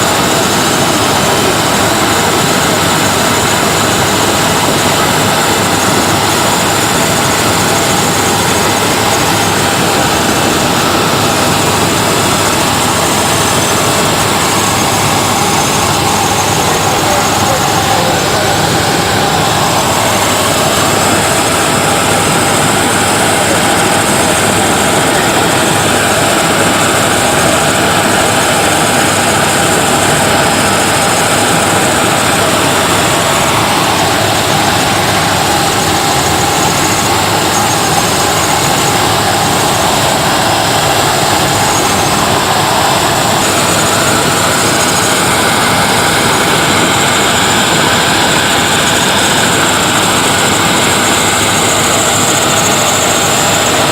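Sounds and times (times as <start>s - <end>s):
helicopter engine and rotor roar: 0.0s - 53.9s.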